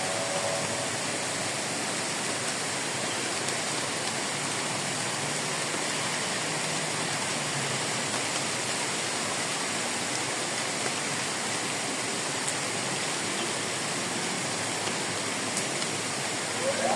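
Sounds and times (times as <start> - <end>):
heavy rain falling: 0.0 - 16.9
rain drop ticks: 2.0 - 11.2, 12.3 - 16.9.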